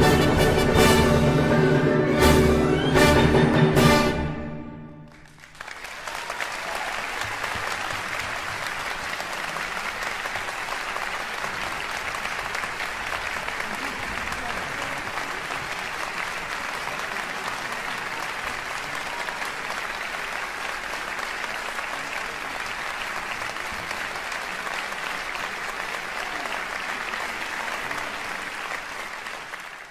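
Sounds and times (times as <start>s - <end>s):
audience applauding: 4.8s - 29.9s.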